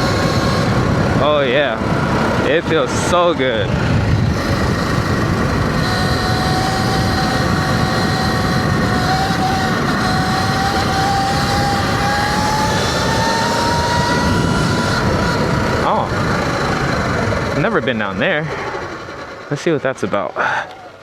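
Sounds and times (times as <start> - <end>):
electric motor whine: 0.0 - 21.0
wind and tyre rumble: 0.0 - 21.0.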